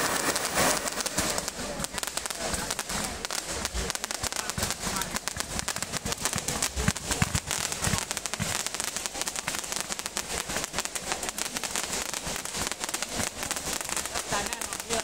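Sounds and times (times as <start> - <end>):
fireworks bangs: 0.0 - 15.0
fireworks crackling pops: 0.0 - 15.0.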